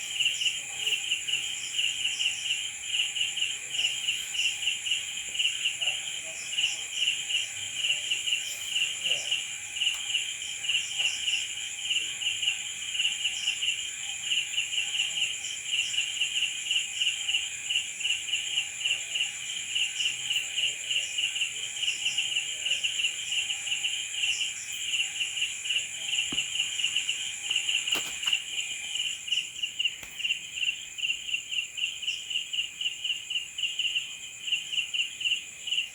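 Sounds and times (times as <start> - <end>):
crickets chirping: 0.0 - 35.9.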